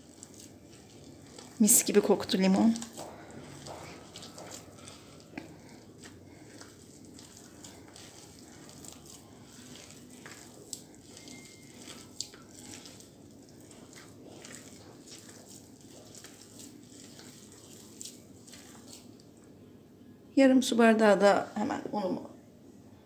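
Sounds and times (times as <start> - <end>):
hand kneading dough: 0.0 - 19.6.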